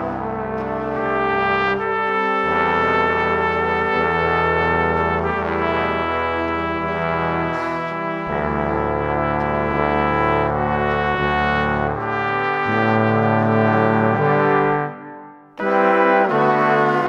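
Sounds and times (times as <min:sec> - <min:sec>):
brass-toned instrumental music: 0:00.0 - 0:17.0.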